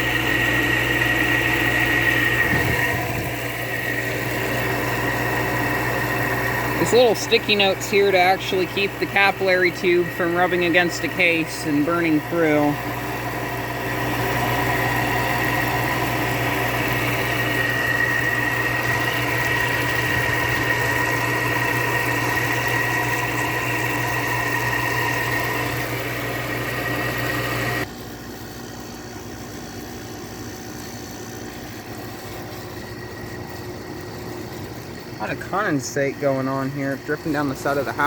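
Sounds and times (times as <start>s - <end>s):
air conditioner compressor hum: 0.0s - 38.0s.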